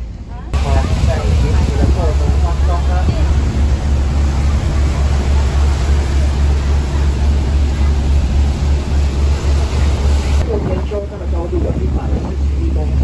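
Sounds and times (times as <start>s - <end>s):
boat engine rumbling: 0.0s - 13.0s
rushing water: 0.5s - 13.0s.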